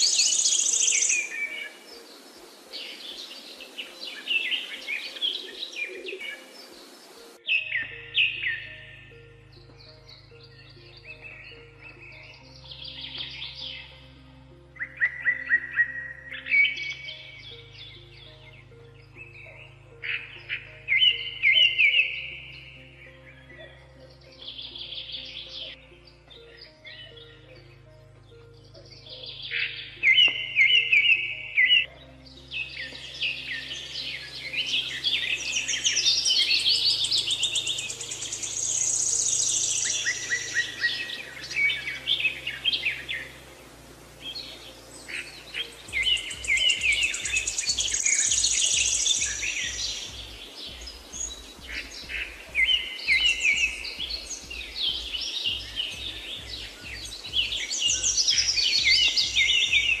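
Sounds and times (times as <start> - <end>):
birds singing: 0.0 - 60.0
background music with low beat: 5.1 - 60.0.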